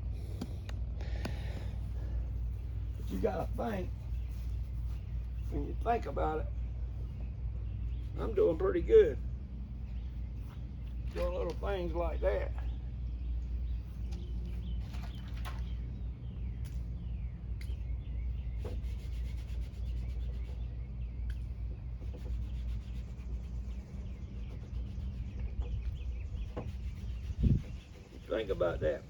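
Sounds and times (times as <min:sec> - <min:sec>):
faint birds chirping: 0:00.0 - 0:29.0
steady low hum: 0:00.0 - 0:29.0.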